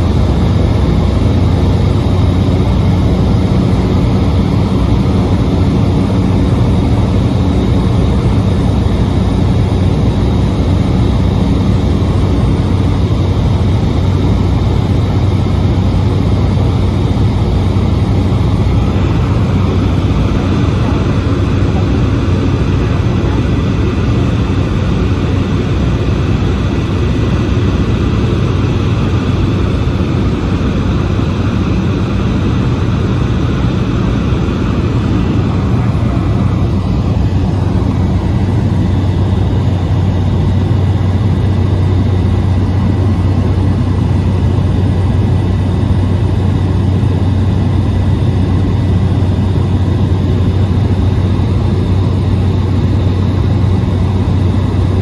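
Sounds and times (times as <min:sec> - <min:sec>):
low propeller hum: 0:00.0 - 0:55.0
turboprop engine drone: 0:00.0 - 0:55.0.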